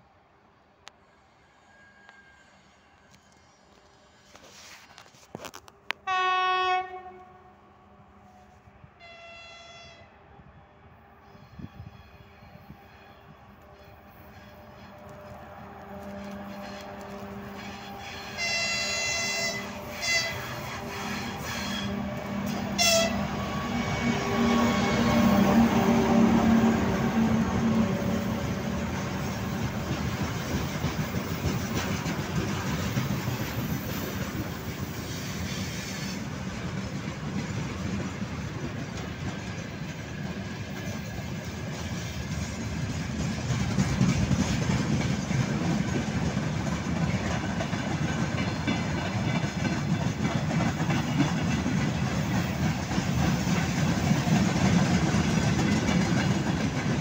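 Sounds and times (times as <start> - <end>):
steel wheels rumbling on rails: 11.1 - 57.0.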